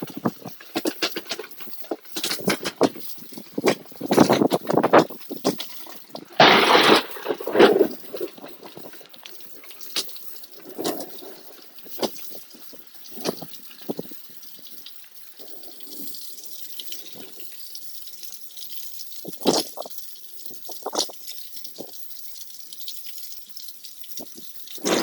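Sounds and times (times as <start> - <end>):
crunchy crackles: 0.0 - 17.6, 19.2 - 21.2, 24.2 - 25.0
dripping water: 0.0 - 25.0
steady rain: 0.0 - 25.0.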